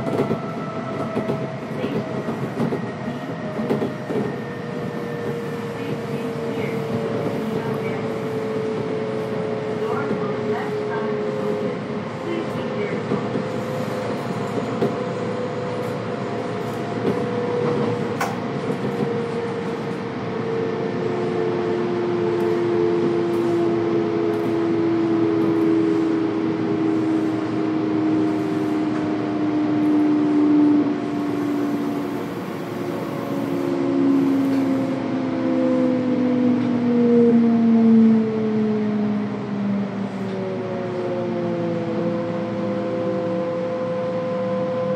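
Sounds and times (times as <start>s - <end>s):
train motor whine: 0.0s - 38.2s
train rumble on rails: 0.0s - 44.9s.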